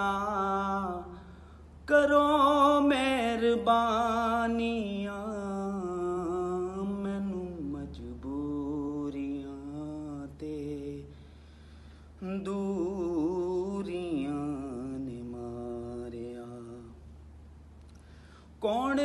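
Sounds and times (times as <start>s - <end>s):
man singing unaccompanied: 0.0s - 11.2s, 12.2s - 17.1s, 18.6s - 19.0s
steady low hum: 0.0s - 19.0s.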